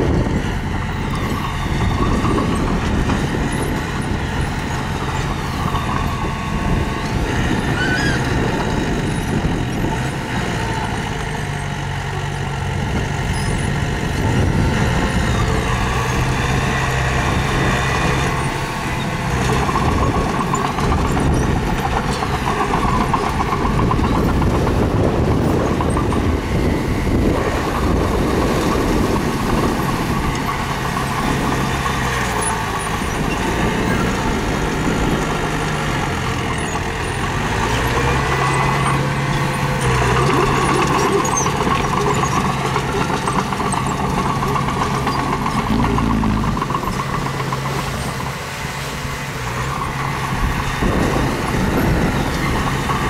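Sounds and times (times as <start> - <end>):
diesel engine of construction machinery: 0.0 - 53.0.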